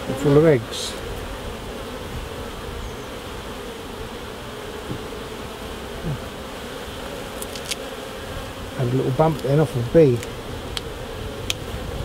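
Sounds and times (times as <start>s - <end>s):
honeybees buzzing: 0.0s - 12.0s
single bee flying past: 0.0s - 12.0s.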